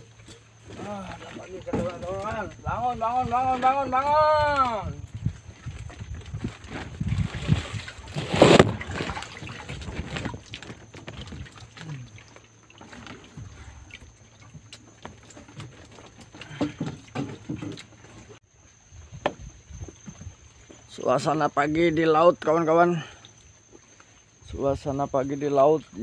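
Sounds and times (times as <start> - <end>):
faint water sloshing: 0.0 - 26.0.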